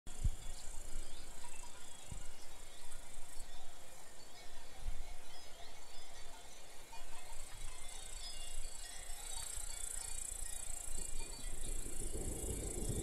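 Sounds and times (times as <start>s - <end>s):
insects chirping: 0.1s - 13.0s.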